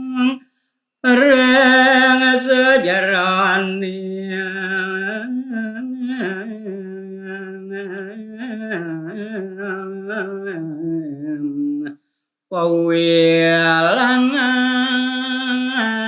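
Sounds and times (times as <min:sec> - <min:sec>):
man singing unaccompanied: 0:00.0 - 0:00.4, 0:01.0 - 0:16.0.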